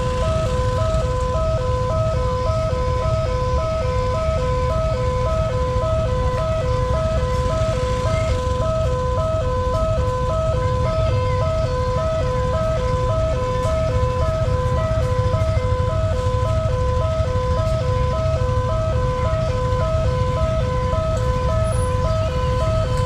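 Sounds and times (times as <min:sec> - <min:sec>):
two-tone crossing warning siren: 0:00.0 - 0:23.0.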